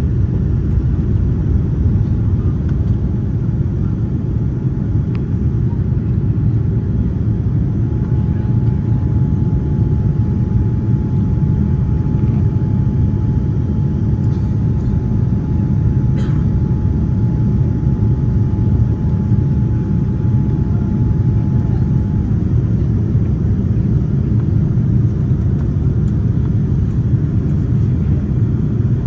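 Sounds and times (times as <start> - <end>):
aircraft cabin engine rumble: 0.0 - 29.0
faint steady whine: 5.1 - 28.4.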